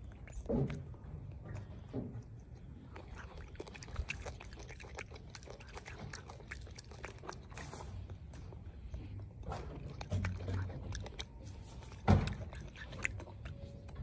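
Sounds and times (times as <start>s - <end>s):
monkey chewing crunchily: 0.0s - 14.0s.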